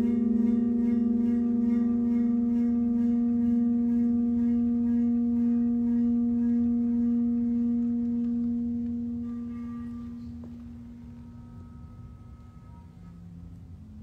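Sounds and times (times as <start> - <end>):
metal plate ringing tone: 0.0 - 14.0.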